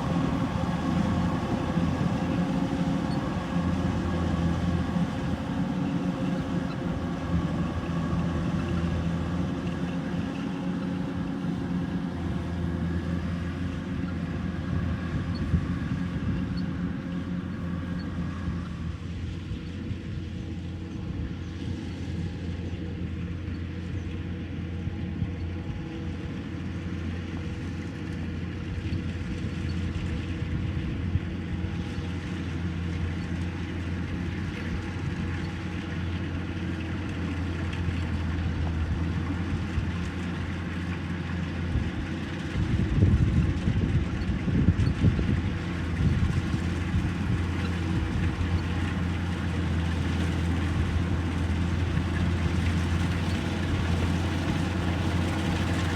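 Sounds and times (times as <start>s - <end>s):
harvester engine running: 0.0s - 55.9s.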